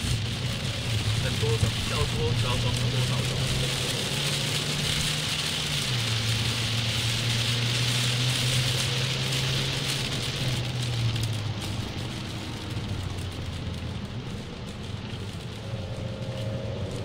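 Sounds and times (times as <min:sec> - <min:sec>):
car engine drone: 0:00.0 - 0:17.0
rain hissing on car: 0:00.0 - 0:17.0
tyres on wet road: 0:00.0 - 0:17.0.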